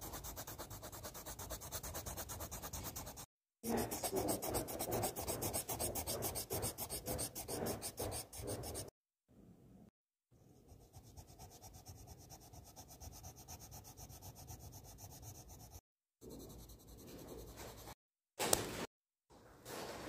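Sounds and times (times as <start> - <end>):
pencil shading on paper: 0.0 - 8.9, 10.6 - 18.0.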